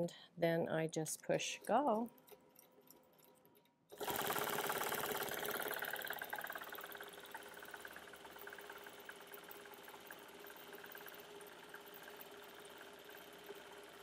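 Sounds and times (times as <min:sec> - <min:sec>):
quilting machine needle clatter: 0:01.6 - 0:14.0.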